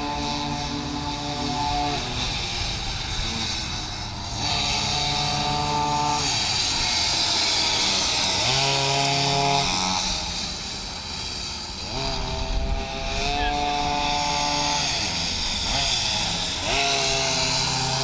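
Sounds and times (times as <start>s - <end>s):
small two-stroke engines revving: 0.0s - 18.0s.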